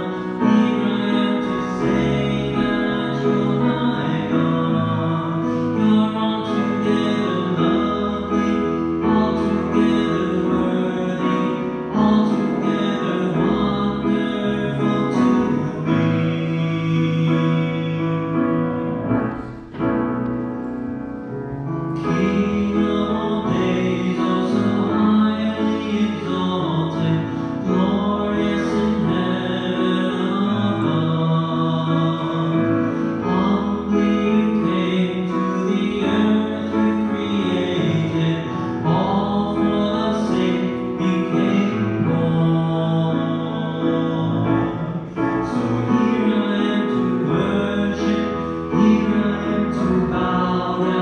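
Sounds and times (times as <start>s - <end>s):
keyboard accompaniment: 0.0s - 51.0s.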